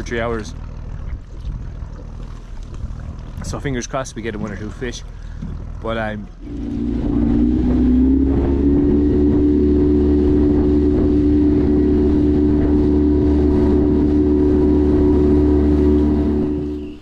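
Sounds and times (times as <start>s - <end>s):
outboard motor drone: 0.0s - 17.0s
rush of wind and water: 0.0s - 17.0s.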